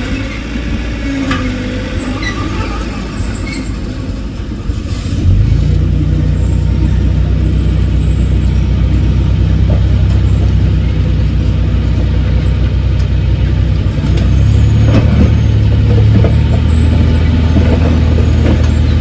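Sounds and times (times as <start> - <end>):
diesel engine running and revving: 0.0 - 19.0.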